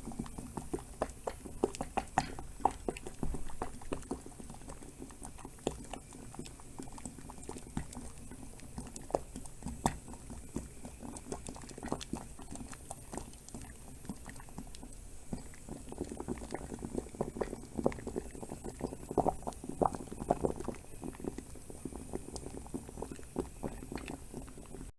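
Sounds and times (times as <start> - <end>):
bubbling pops: 0.0 - 24.9
water boiling in a pot: 0.0 - 24.9.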